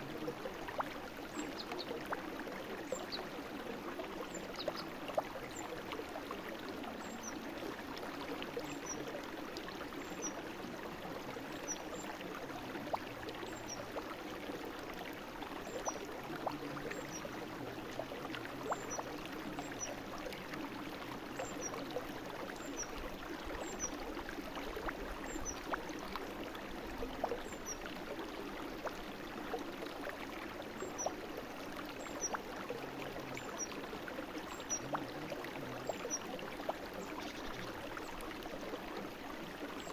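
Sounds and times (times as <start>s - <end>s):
brook water flowing over stones: 0.0s - 39.9s.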